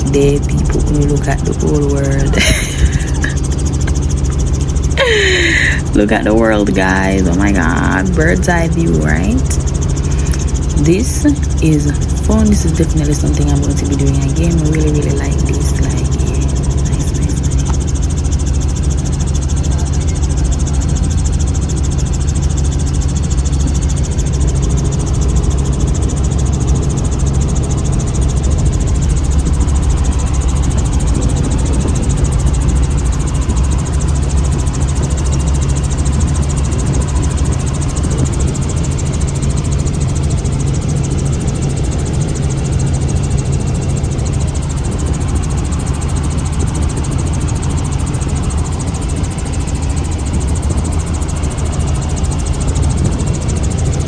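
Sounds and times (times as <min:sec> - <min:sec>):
helicopter cabin engine drone: 0:00.0 - 0:54.0.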